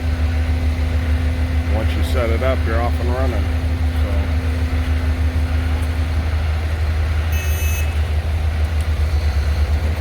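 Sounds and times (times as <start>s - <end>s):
heavy machinery engines rumbling: 0.0s - 10.0s.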